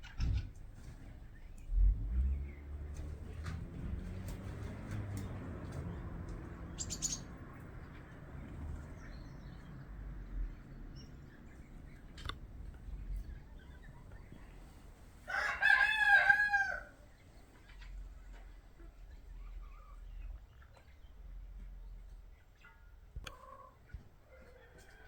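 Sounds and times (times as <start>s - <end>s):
outdoor background: 0.0s - 25.0s.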